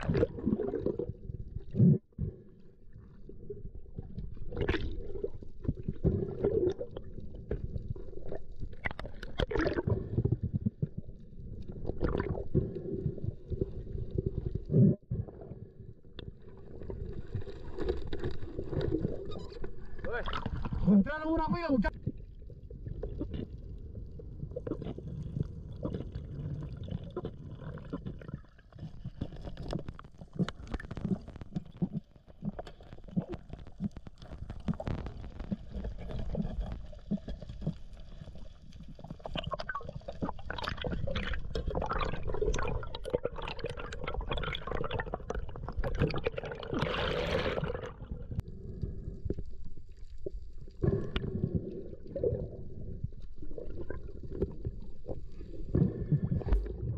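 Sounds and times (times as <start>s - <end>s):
water sloshing and gurgling: 0.0s - 56.9s.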